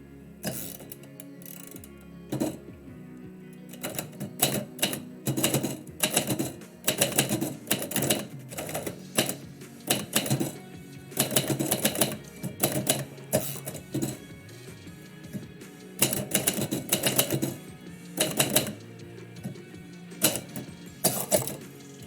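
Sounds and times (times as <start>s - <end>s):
soft background music: 0.0s - 22.0s
typewriter key strikes: 0.4s - 2.6s, 3.7s - 10.6s, 11.2s - 14.3s, 15.3s - 21.7s.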